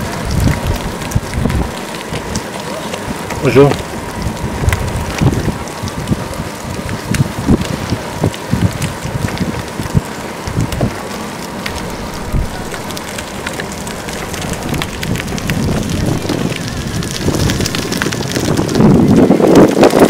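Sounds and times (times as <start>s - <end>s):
bicycle tyres rolling on road: 0.0s - 20.0s
wind buffeting microphone: 0.0s - 20.0s.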